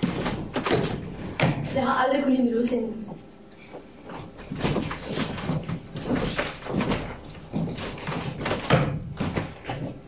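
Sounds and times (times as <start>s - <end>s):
footsteps on stage floor: 0.0s - 1.8s, 3.0s - 10.0s.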